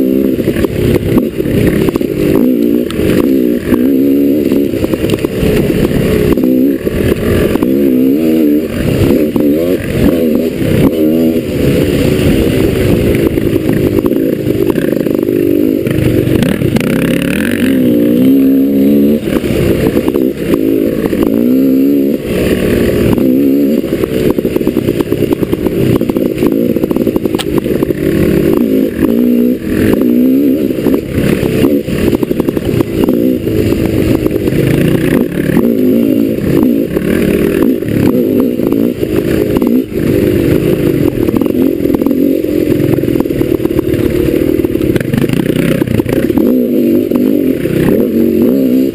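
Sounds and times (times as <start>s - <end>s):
knocks and rattles on rough ground: 0.0s - 48.2s
dirt bike engine revving: 0.0s - 48.9s.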